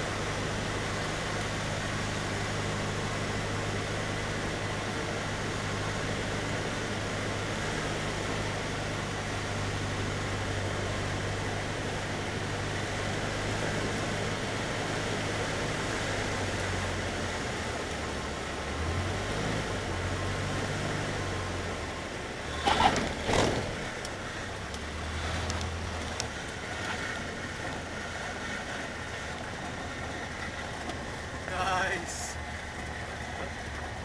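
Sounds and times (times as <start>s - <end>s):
aircraft engine running: 0.0s - 34.0s.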